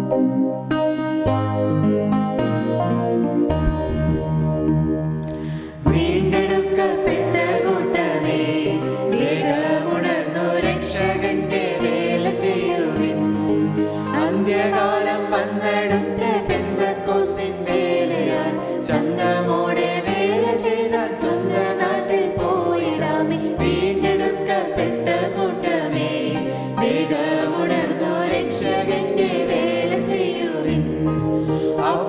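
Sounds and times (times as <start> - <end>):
instrumental accompaniment: 0.0 - 32.0
group singing a hymn: 5.8 - 32.0.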